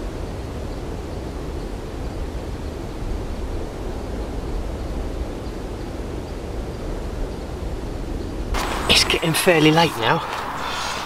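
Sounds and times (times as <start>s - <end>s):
wind gusting over microphone: 0.0s - 11.0s.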